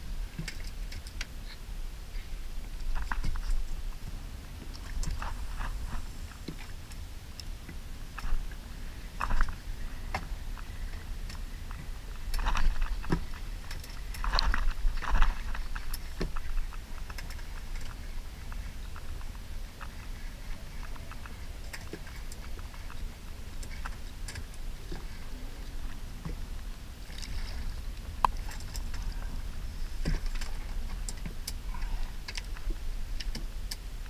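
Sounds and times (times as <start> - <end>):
water lapping against kayak hull: 0.0 - 34.0
wind rumbling on microphone: 0.0 - 34.0
small clicks and crackles: 0.3 - 4.0, 4.6 - 8.6, 9.2 - 34.0.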